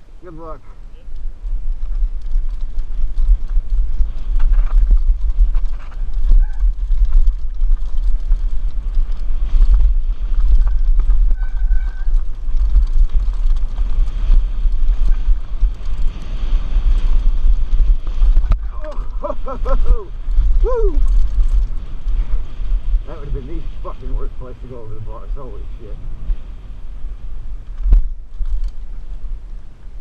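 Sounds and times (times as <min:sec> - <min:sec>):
wind buffeting camera: 0:00.0 - 0:30.0
bike frame and chain rattling: 0:01.1 - 0:24.0, 0:27.5 - 0:29.6.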